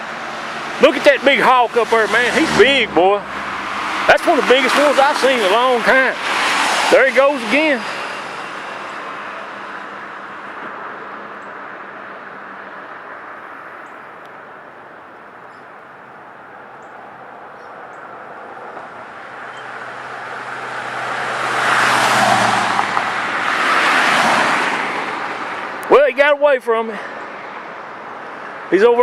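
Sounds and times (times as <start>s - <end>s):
road traffic noise: 0.0s - 29.0s
vehicles passing close by: 0.0s - 29.0s.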